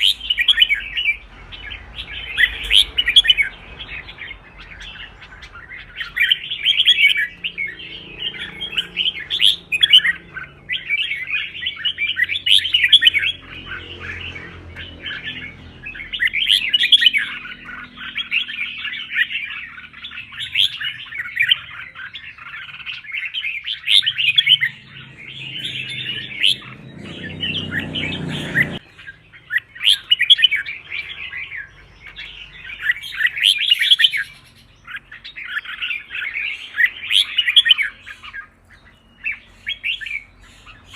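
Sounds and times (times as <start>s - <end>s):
bulbul warbling song: 0.0s - 40.9s.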